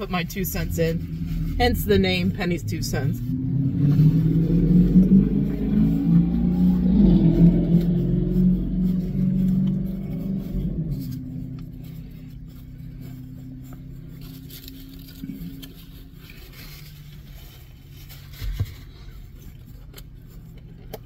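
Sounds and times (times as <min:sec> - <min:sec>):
rustling and handling noises: 0:00.0 - 0:06.3, 0:07.2 - 0:21.0
car engine hum: 0:00.0 - 0:21.0.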